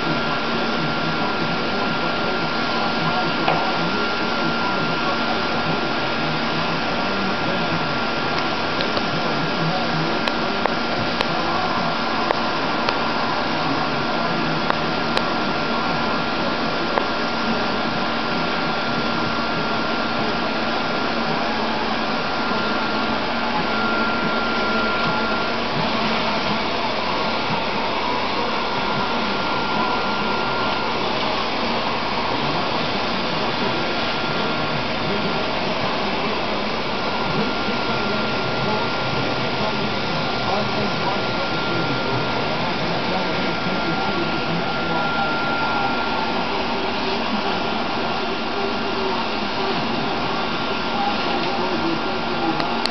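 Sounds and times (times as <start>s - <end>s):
steady high whine: 0.0s - 52.9s.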